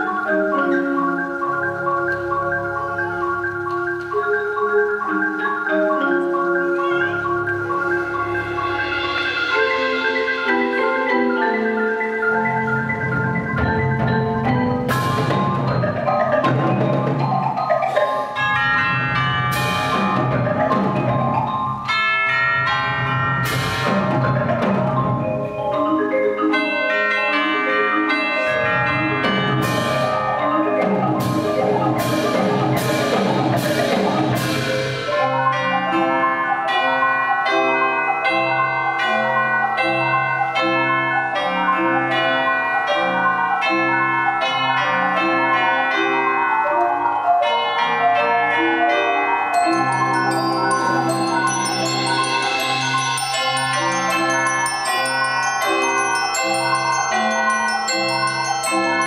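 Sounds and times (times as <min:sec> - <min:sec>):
marimba ensemble playing: 0:00.0 - 0:59.0.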